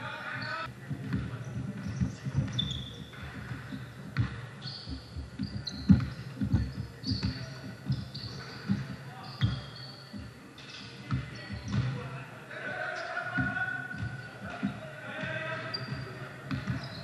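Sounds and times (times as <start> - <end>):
sneakers squeaking on floor: 0.3 - 17.0
basketball dribbling thuds: 0.9 - 10.3, 11.1 - 12.0, 13.4 - 17.0.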